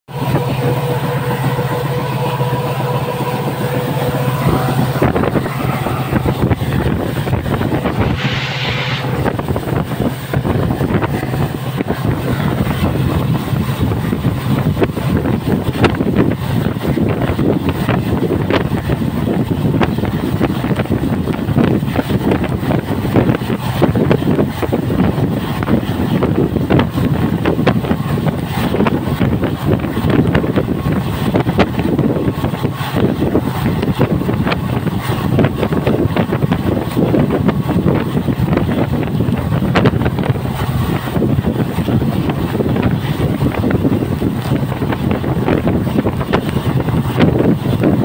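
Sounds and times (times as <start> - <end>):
steady hum: 0.1 - 48.0
wind rushing over microphone: 0.1 - 48.0.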